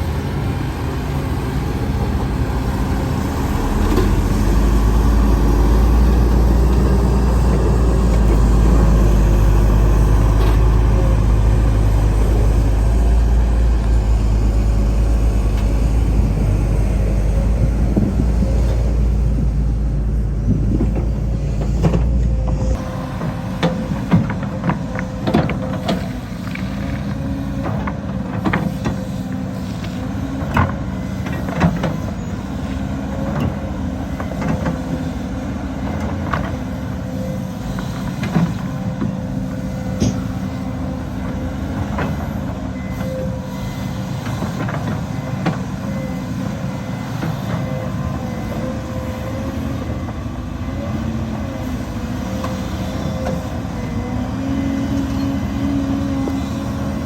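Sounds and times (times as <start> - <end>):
diesel machinery engine hum: 0.0 - 57.0.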